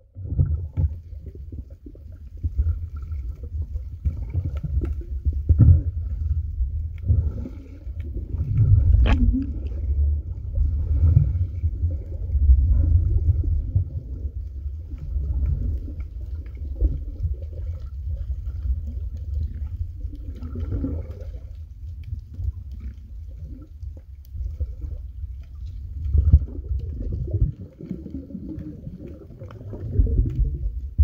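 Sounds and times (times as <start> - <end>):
underwater water rumble: 0.0 - 31.0
faint ticks and clicks: 0.3 - 31.0.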